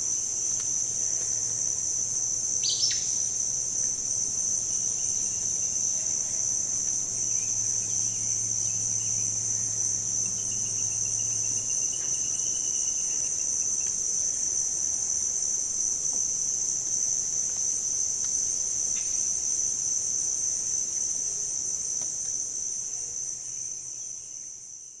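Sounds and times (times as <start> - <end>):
high-pitched insect trill: 0.0 - 21.8.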